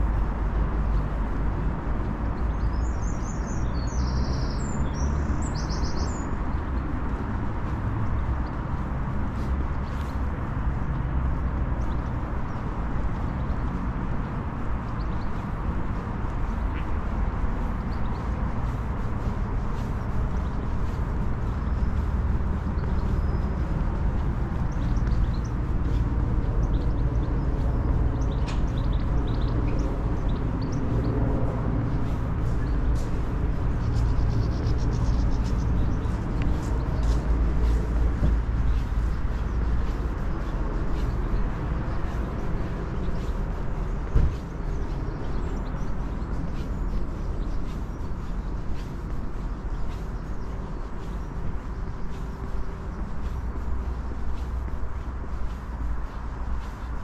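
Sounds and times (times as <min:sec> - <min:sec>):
city ambience rumble: 0:00.0 - 0:57.0
footsteps on brick paving: 0:00.0 - 0:57.0
small birds chirping: 0:00.0 - 0:57.0.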